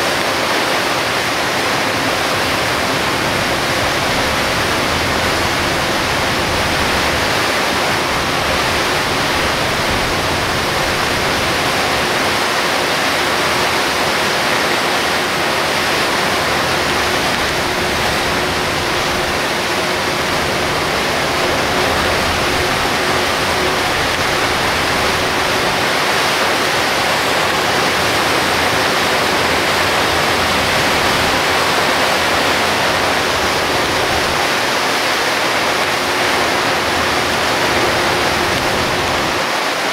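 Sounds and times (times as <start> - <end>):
torrential rain: 0.0 - 39.9
tyres on a flooded road: 0.0 - 39.9.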